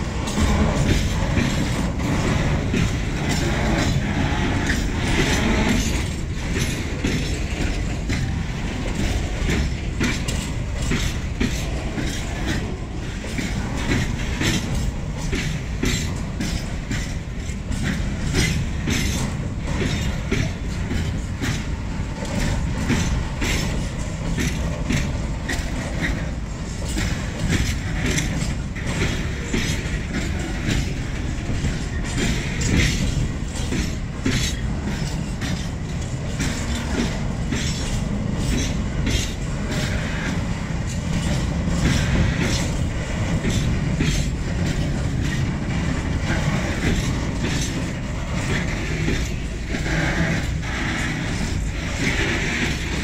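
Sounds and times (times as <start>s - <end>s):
train wheels clacking over rail joints: 0.0s - 53.0s.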